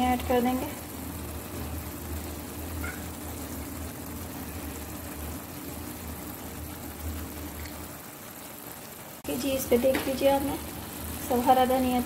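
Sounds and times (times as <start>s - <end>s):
gravy simmering in a frying pan: 0.0s - 12.0s
steady low hum: 0.0s - 12.0s.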